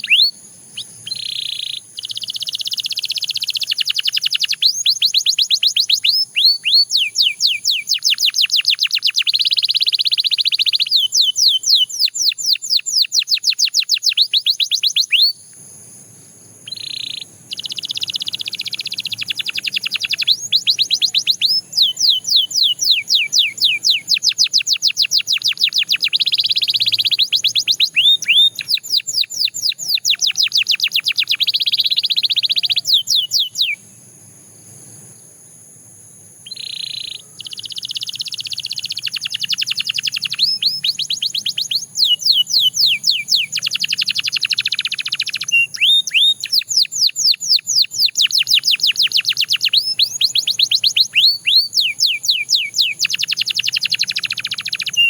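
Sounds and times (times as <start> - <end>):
canary singing trills: 0.0 - 15.5, 16.5 - 33.9, 36.4 - 55.0.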